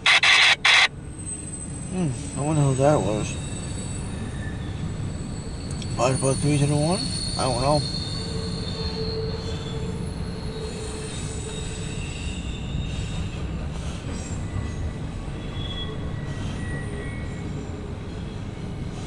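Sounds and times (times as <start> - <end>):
faint high squealing: 0.0 - 13.4, 14.2 - 18.3
train wheels rumbling on rail: 1.0 - 19.0.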